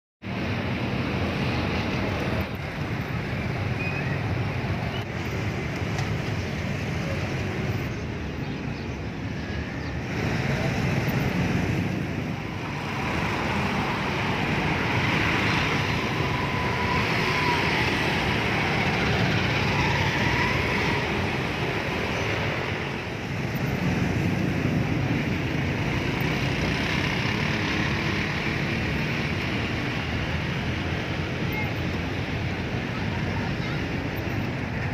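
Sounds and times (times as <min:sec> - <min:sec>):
cars and motorbikes passing: 0:00.2 - 0:34.9.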